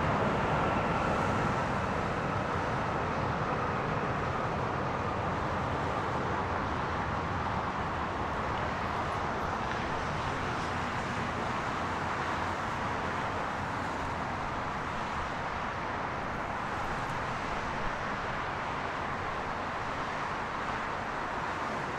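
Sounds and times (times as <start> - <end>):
distant jet engines: 0.0 - 21.9.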